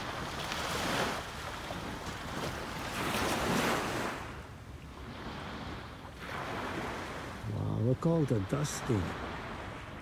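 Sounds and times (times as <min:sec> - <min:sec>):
small waves washing on beach: 0:00.0 - 0:10.0.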